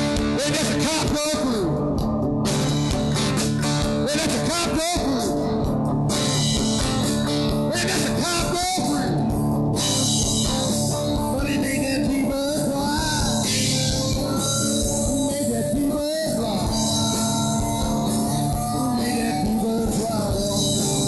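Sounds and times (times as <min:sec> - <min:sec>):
live band playing: 0:00.0 - 0:21.0
sliding lead guitar line: 0:00.0 - 0:21.0.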